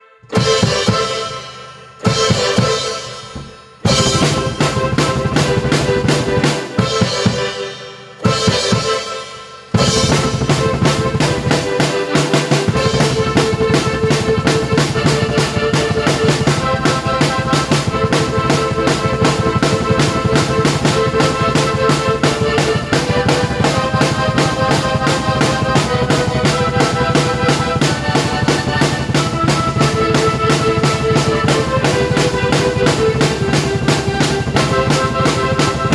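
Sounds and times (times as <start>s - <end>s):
keyboard notes: 0.0s - 35.9s
drum kit playing: 0.2s - 35.9s.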